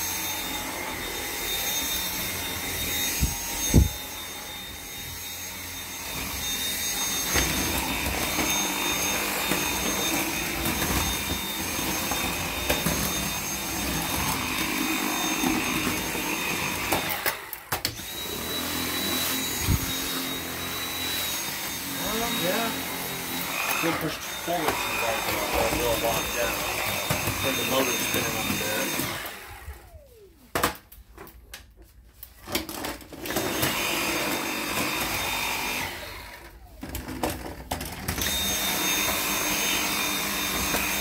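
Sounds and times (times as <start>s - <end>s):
vacuum cleaner motor whine: 0.0s - 30.9s, 32.4s - 41.0s.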